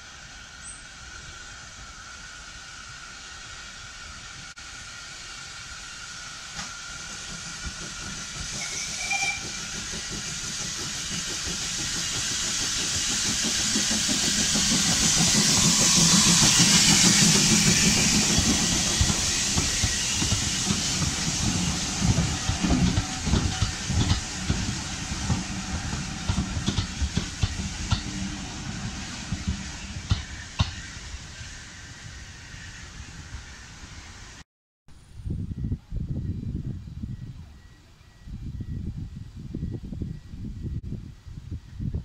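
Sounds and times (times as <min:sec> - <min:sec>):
steam locomotive hissing: 0:00.0 - 0:34.4.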